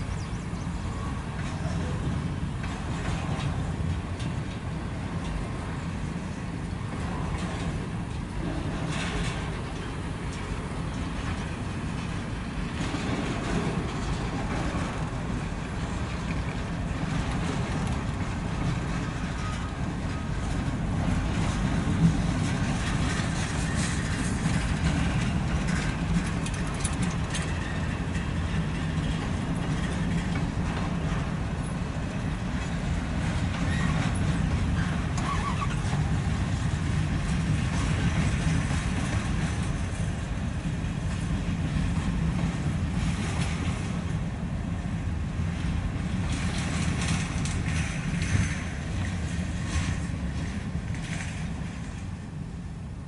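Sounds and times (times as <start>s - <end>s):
steel wheels rumbling on rail: 0.0s - 53.0s.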